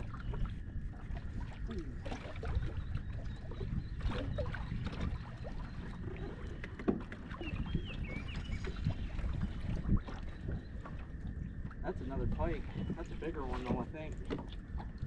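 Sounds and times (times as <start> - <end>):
water slapping boat hull: 0.0 - 15.0.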